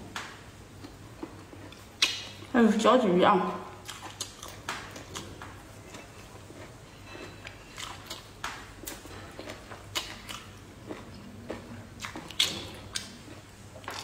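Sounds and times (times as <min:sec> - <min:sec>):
wet chewing and mouth clicks: 0:00.8 - 0:02.5, 0:03.8 - 0:14.0.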